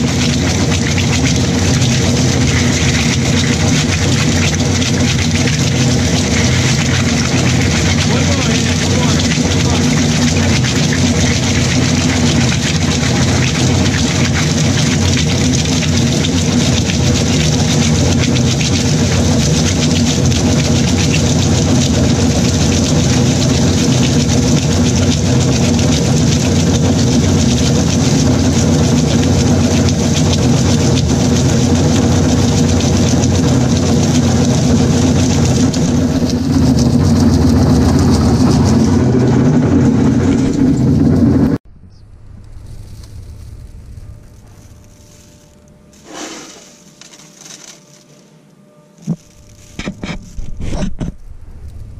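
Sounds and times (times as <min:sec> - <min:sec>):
granulator motor hum: 0:00.0 - 0:51.9.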